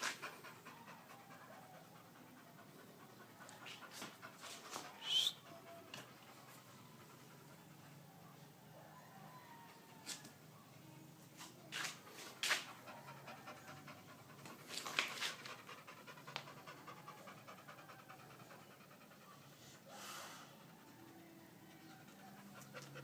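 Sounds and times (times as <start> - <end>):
dog panting: 0.0 - 8.6, 11.7 - 23.0.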